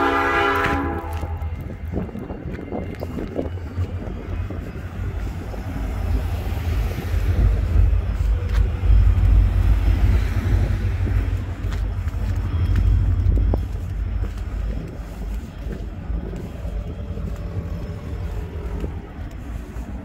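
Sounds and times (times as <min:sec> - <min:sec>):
freight train rumble: 0:00.0 - 0:20.0
cars driving by: 0:03.0 - 0:20.0.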